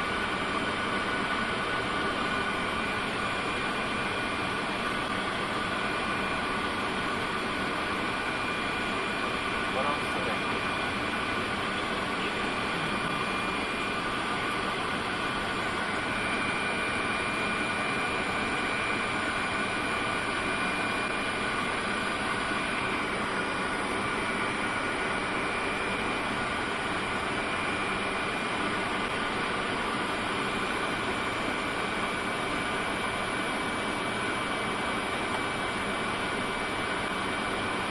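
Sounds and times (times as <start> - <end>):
turbofan engines humming: 0.0 - 37.9.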